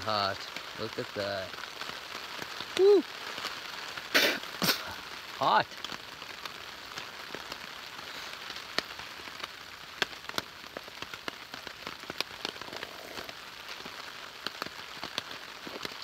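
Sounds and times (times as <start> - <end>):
rain hissing: 0.0 - 16.0
raindrops ticking on surfaces: 0.0 - 16.0.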